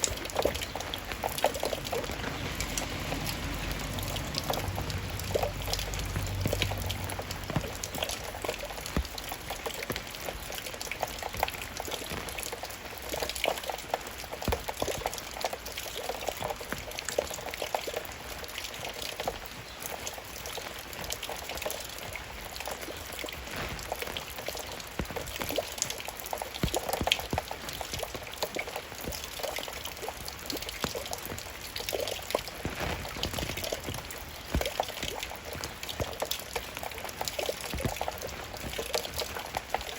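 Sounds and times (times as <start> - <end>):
raindrops falling and splashing: 0.0 - 39.9.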